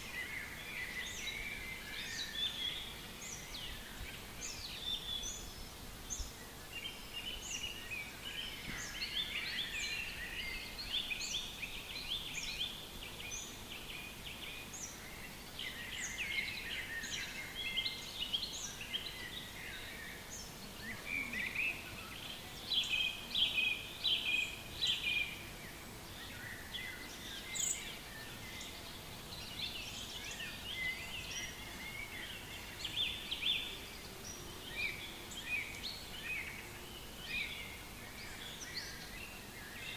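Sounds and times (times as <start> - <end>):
faint steady background hiss: 0.0 - 39.9
songbirds chirping and trilling: 0.0 - 39.9.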